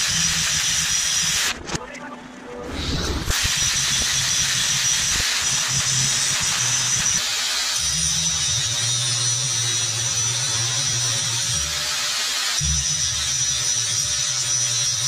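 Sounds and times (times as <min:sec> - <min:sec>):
angle grinder grinding steel: 0:00.0 - 0:01.6, 0:02.7 - 0:15.0
bandsaw cutting steel: 0:00.0 - 0:01.6, 0:02.8 - 0:15.0.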